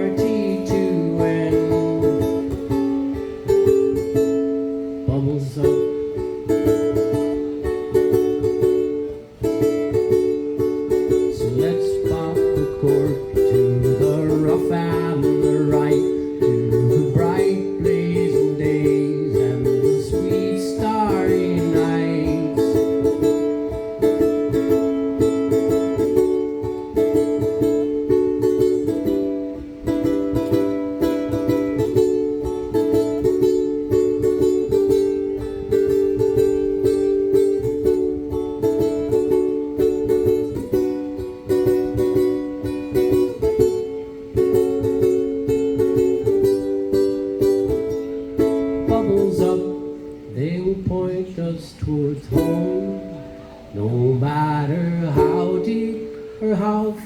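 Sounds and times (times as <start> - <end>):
strummed string instrument: 0.0 - 57.0
wordless melody line: 0.0 - 57.0.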